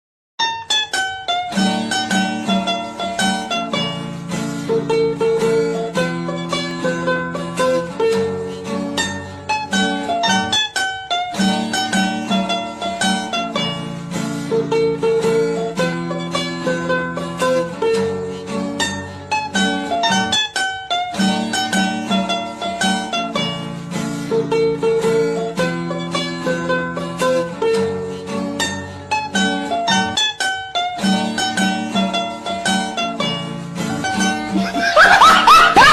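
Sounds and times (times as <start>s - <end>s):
plucked string instrument melody: 0.4s - 35.9s
strummed chords: 0.4s - 35.9s.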